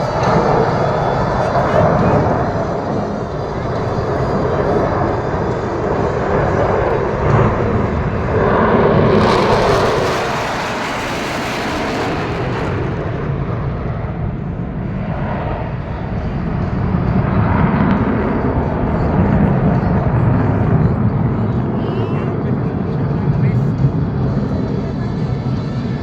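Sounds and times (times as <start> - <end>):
fighter jets passing: 0.0 - 26.0.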